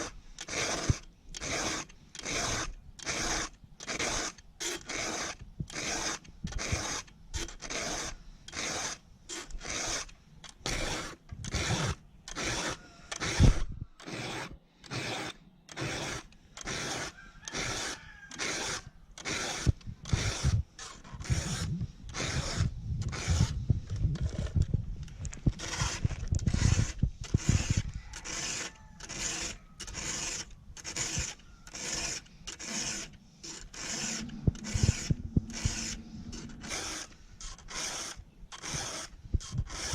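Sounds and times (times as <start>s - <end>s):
hand file rasping on chain: 0.0s - 39.9s.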